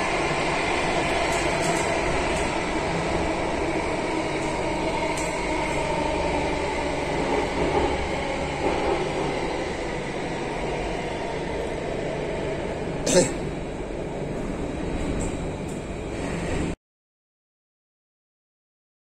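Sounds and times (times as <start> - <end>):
train wheels rumbling on rail: 0.0 - 16.8.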